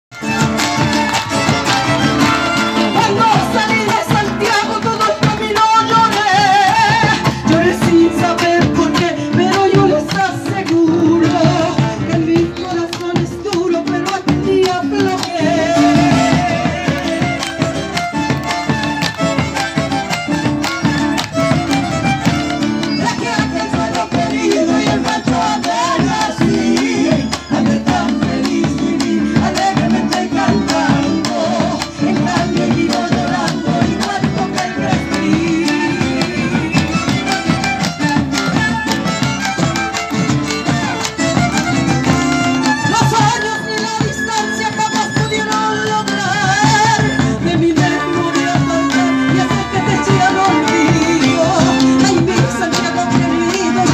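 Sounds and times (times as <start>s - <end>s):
acoustic guitar: 0.1s - 53.9s.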